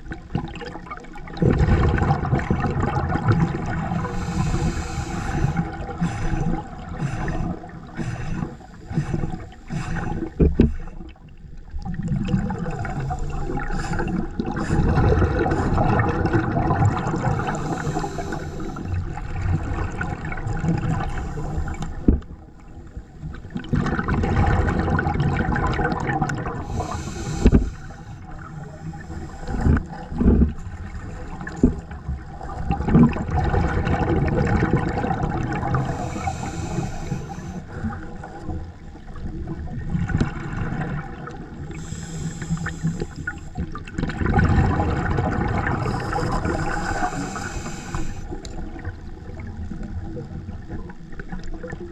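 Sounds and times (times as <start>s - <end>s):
air bubbles rushing underwater: 0.0s - 51.9s.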